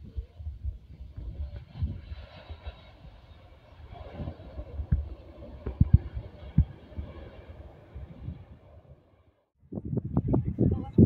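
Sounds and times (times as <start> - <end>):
jet engine noise: 0.0 - 11.0
wind buffeting microphone: 0.0 - 11.0.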